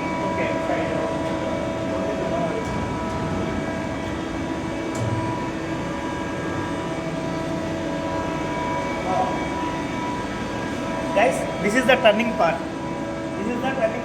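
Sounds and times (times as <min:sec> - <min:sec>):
whining tones: 0:00.0 - 0:14.0
workshop machinery humming: 0:00.0 - 0:14.0.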